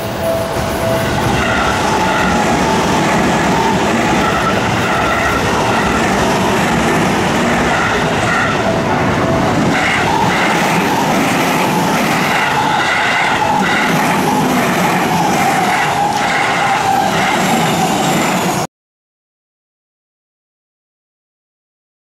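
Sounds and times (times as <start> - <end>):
train wheels rumbling on rails: 0.0 - 18.7.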